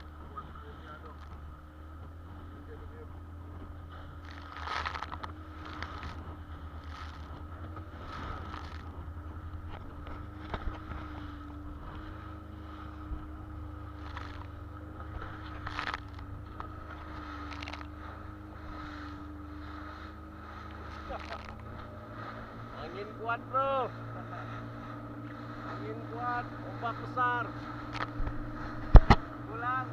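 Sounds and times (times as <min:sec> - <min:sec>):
boat engine running: 0:00.0 - 0:29.9
waves splashing against hull: 0:00.0 - 0:29.9.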